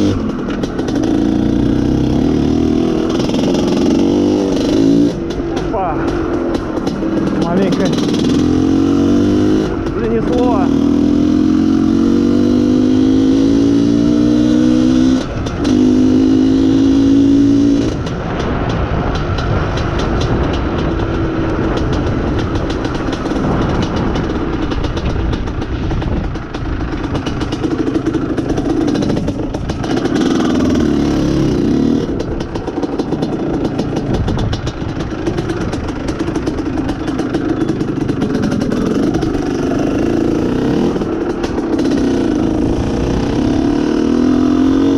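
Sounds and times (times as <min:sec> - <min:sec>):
two-stroke motorcycle engine revving: 0:00.0 - 0:44.9.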